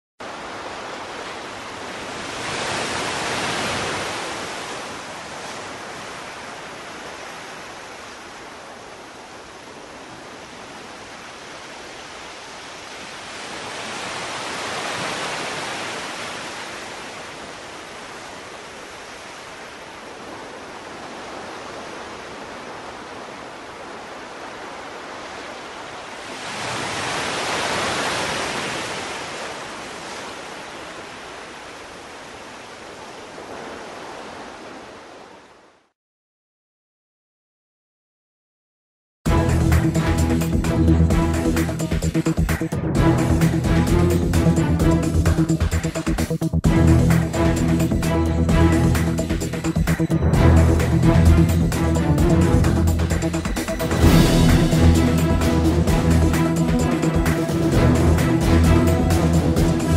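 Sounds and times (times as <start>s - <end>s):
ocean waves washing: 0.2s - 35.8s, 39.3s - 59.9s.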